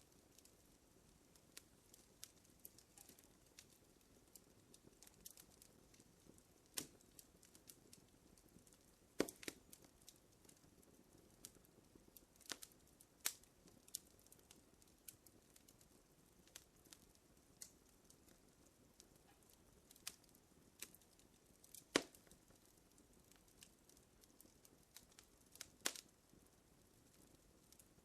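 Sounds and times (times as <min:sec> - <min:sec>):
low fire hiss: 0:00.0 - 0:28.0
wood fire crackling: 0:00.0 - 0:28.0.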